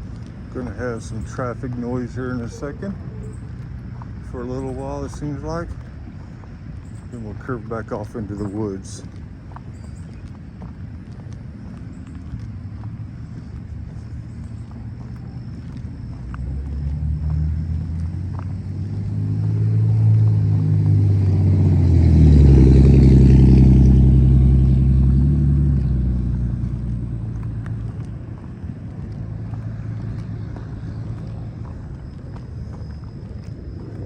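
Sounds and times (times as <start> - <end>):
vehicle passing by: 0.0 - 9.2, 12.1 - 34.0.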